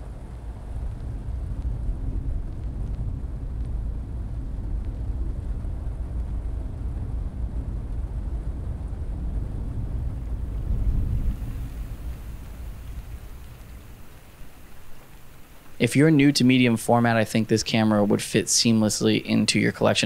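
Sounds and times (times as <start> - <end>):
car driving low rumble: 0.0 - 20.0.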